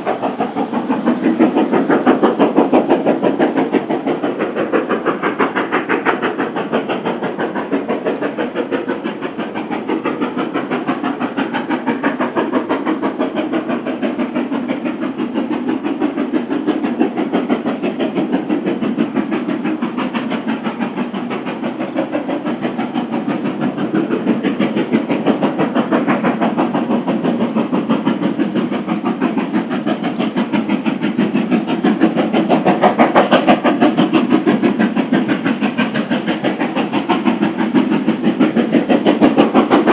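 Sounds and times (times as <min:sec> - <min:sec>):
steam hiss: 0:00.0 - 0:39.9
steam locomotive exhaust beating: 0:00.0 - 0:39.9.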